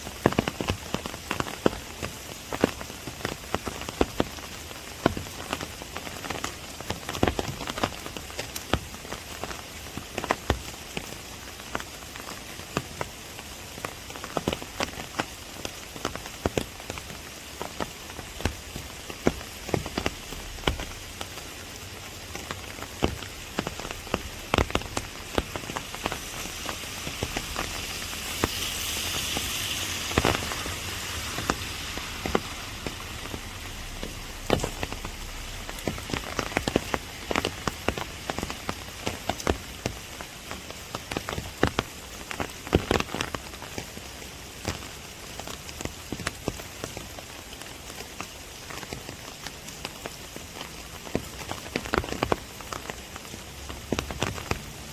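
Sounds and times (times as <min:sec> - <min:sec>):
rain hissing on leaves: 0:00.0 - 0:54.9
raindrops tapping on umbrella: 0:00.0 - 0:54.9.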